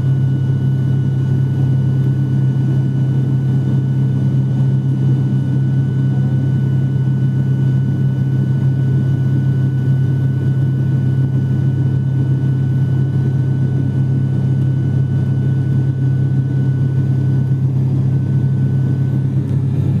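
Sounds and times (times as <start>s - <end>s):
airliner low drone: 0.0s - 20.0s.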